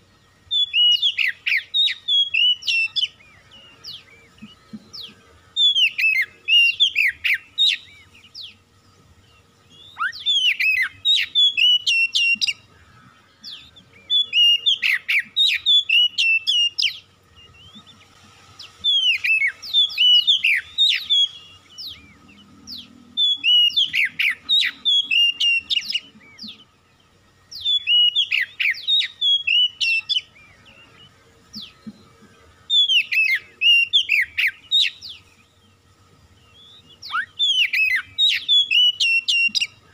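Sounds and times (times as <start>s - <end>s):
bird singing whistles: 0.0s - 12.7s, 13.4s - 18.1s, 18.7s - 26.8s, 27.5s - 35.8s, 36.4s - 39.9s.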